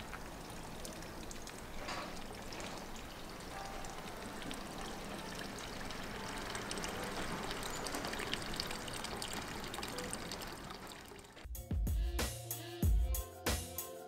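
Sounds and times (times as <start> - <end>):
water running into stone basin: 0.0 - 11.5.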